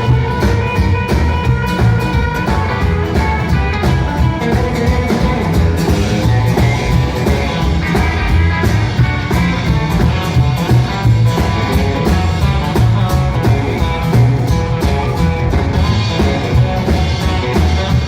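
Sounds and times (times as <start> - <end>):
bass line: 0.0 - 18.0
drum beat: 0.0 - 18.0
electric guitar: 0.0 - 18.0.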